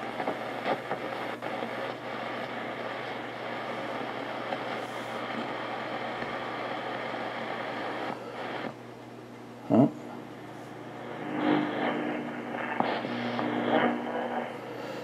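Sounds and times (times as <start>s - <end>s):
shortwave radio static hiss: 0.0s - 15.0s.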